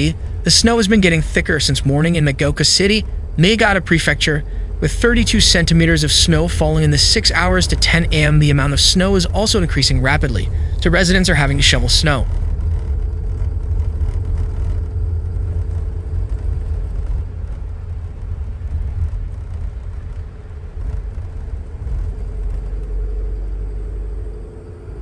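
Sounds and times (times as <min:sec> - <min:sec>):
constant drone: 0:00.0 - 0:25.0
engine rumbling: 0:00.0 - 0:25.0.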